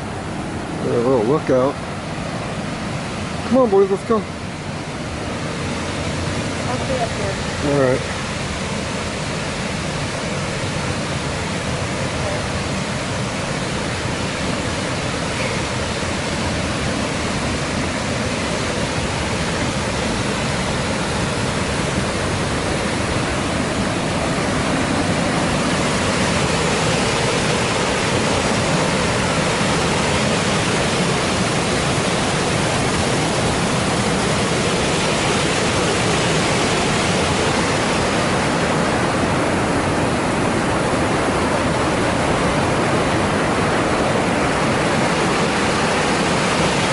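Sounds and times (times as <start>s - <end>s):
rapids rushing: 0.0s - 46.9s.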